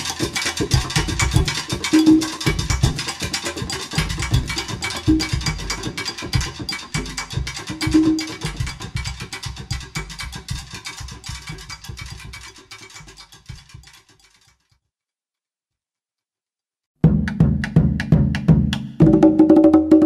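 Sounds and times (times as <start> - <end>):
music with steady beat: 0.0 - 14.0, 17.0 - 20.0.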